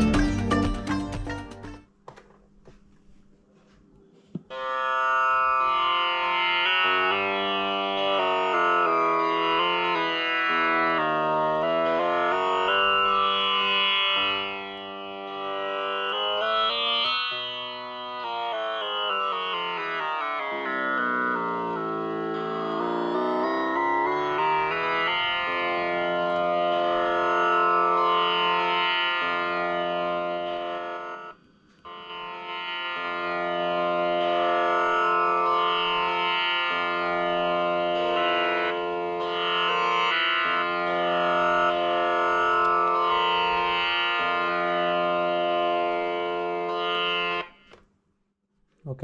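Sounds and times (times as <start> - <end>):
electronic tanpura drone: 4.4 - 47.8.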